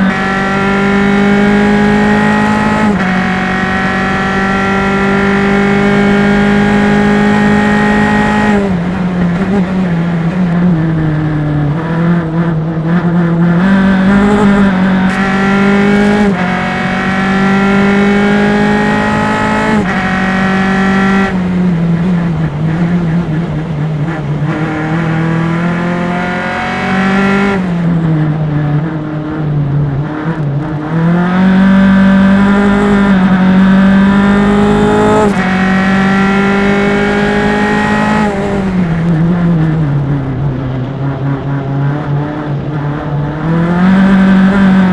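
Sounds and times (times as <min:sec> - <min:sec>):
race car engine at full throttle: 0:00.0 - 0:44.9.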